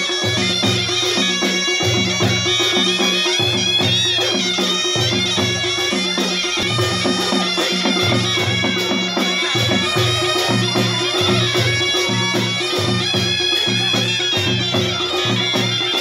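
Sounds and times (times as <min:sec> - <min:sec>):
drums beating rhythm: 0:00.0 - 0:16.0
wind instruments melody: 0:00.0 - 0:16.0.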